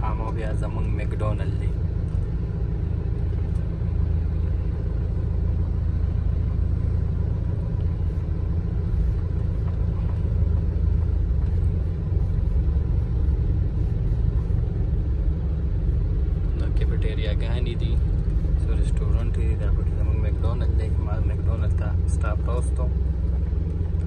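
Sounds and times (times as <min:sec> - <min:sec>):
vehicle engine and tyres rumbling: 0:00.0 - 0:24.0.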